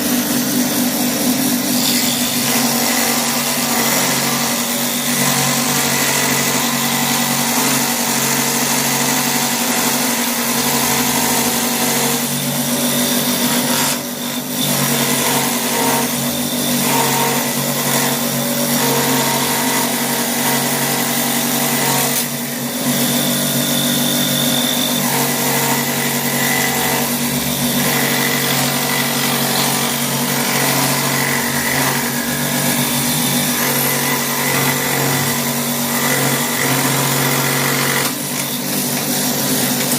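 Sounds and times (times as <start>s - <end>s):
die grinder cutting wood: 0.0s - 39.9s.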